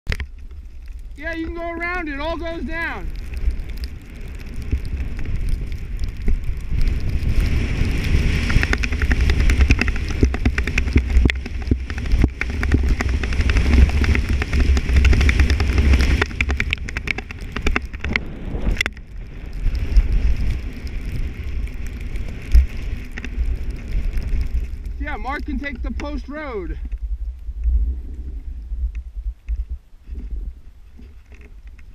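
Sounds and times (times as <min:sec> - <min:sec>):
powder snow hiss and crackle: 0:00.1 - 0:31.9
wind buffeting microphone: 0:00.1 - 0:31.9.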